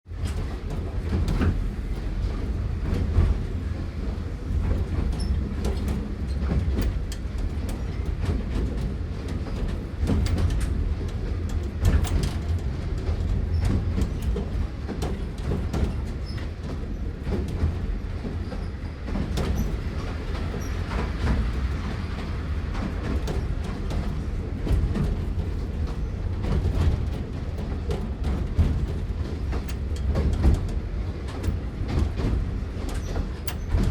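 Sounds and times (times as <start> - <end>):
train low rumble: 0.0 - 33.9
wheels clicking and knocking: 0.2 - 33.9.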